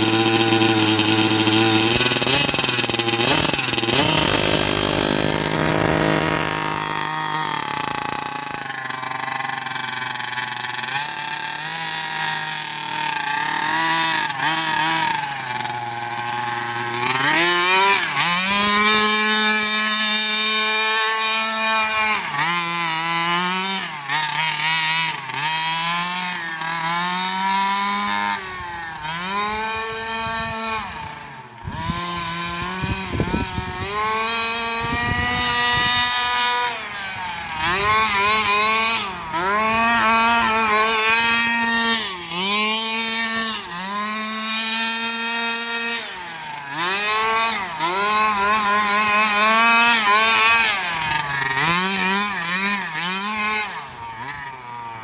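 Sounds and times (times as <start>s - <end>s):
small two-stroke engine revving: 0.0s - 55.0s.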